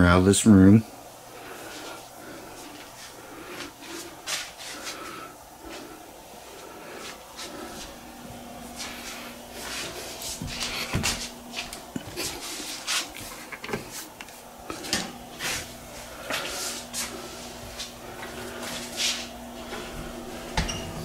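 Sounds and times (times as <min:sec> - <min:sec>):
footsteps on tile floor: 0:01.7 - 0:21.0.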